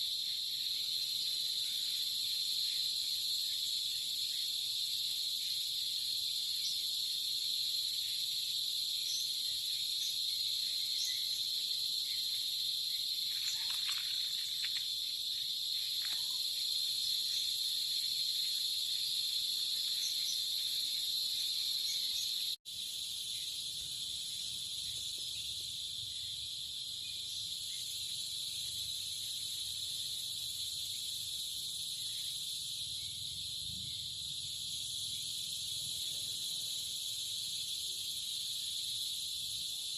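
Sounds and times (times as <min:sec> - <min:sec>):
chirring insects: 0:00.0 - 0:39.9.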